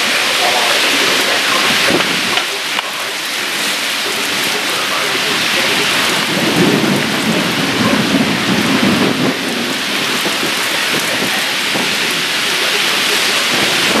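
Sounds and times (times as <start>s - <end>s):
low thunder rumble: 0.0s - 14.0s
steady rain pouring: 0.0s - 14.0s.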